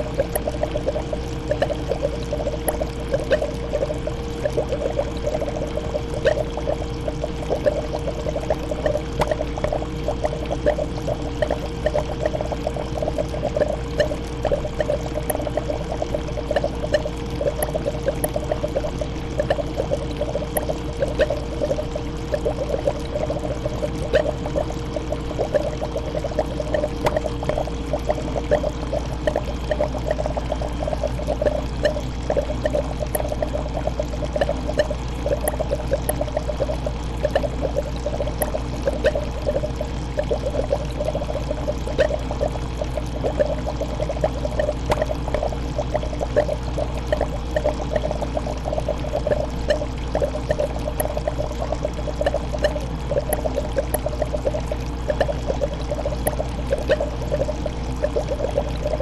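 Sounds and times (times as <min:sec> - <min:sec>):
aquarium water bubbling: 0:00.0 - 0:59.0
low steady hum: 0:00.0 - 0:59.0.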